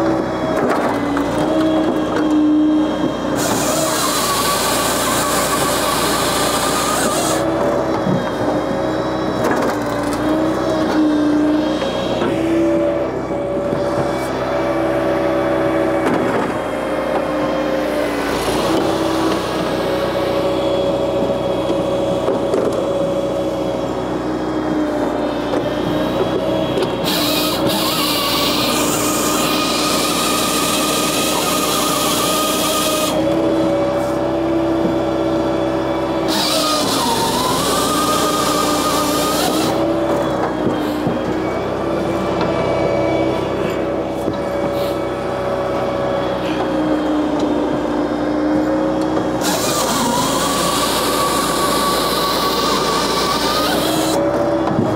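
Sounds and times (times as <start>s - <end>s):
firewood processor drone: 0.0s - 54.9s
loud machine hum: 0.0s - 54.9s.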